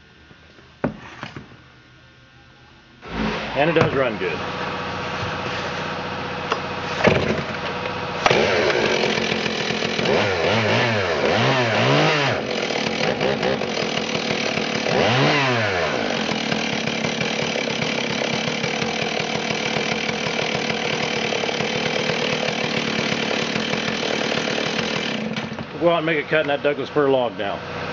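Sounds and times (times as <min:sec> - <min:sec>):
chainsaw idling and revving: 0:03.0 - 0:27.9.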